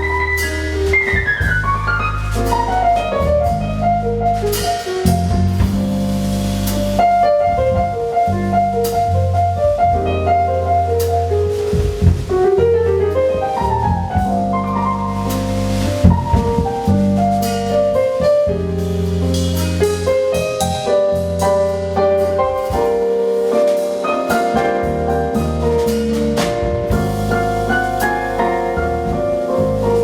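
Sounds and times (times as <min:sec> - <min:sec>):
bass line: 0:00.0 - 0:30.0
drum kit with cymbal strikes: 0:00.0 - 0:30.0
jazz band playing: 0:00.0 - 0:30.0.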